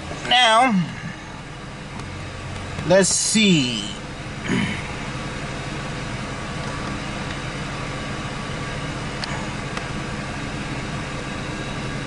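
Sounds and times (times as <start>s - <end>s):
engine humming inside cab: 0.0s - 12.0s.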